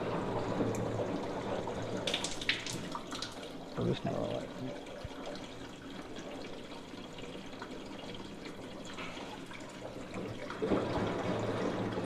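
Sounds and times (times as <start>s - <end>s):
water filling washing machine: 0.0s - 12.0s.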